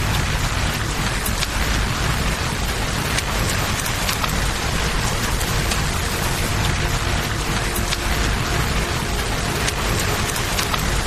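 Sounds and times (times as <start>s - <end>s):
campfire crackling: 0.0s - 11.0s
deep rumble: 0.0s - 11.0s
rain falling: 0.0s - 11.0s
river water flowing: 0.0s - 11.0s.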